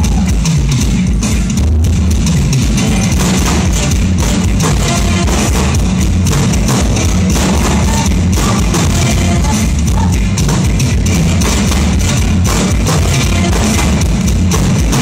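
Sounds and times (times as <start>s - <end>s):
rock music with drums and guitar: 0.0s - 15.0s.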